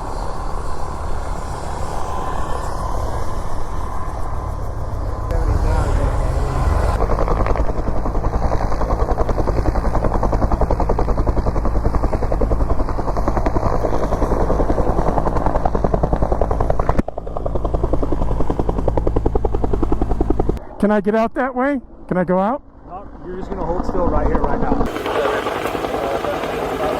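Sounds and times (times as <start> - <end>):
helicopter rotor chopping: 0.0 - 20.6, 23.0 - 26.9.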